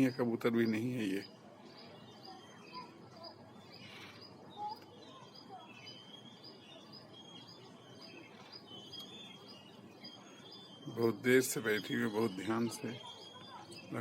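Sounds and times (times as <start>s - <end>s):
faint bird chirps: 0.0s - 14.0s
outdoor background hiss: 0.0s - 14.0s.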